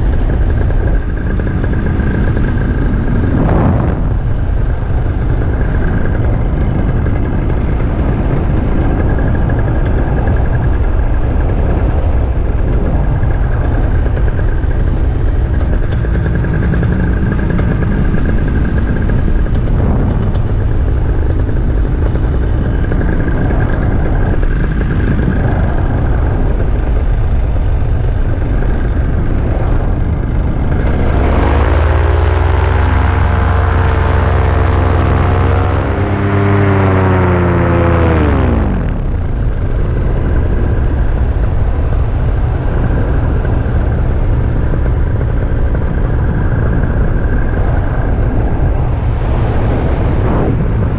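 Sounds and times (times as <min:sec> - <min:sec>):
paramotor engine and propeller: 0:00.0 - 0:50.9
wind rush on microphone: 0:00.0 - 0:50.9.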